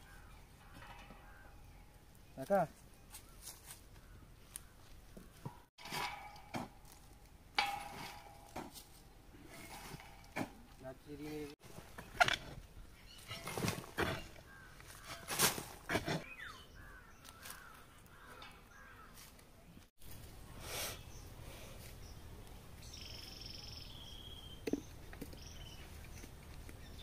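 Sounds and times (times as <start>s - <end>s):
birds calling: 0.0s - 6.9s, 7.6s - 19.9s, 20.9s - 27.0s.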